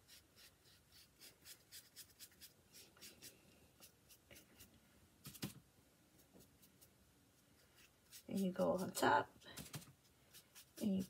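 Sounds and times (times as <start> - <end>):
paintbrush scratching strokes: 0.0 - 5.5, 6.1 - 11.0.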